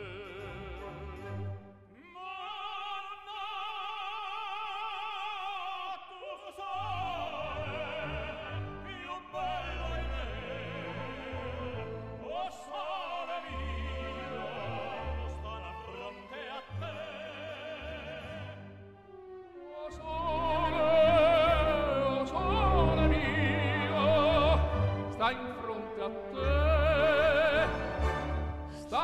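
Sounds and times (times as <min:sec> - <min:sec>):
operatic tenor singing: 0:00.0 - 0:29.0
orchestra: 0:00.0 - 0:29.0.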